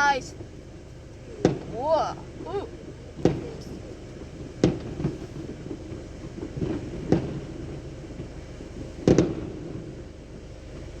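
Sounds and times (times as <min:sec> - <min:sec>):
firework bangs: 0:00.0 - 0:10.9.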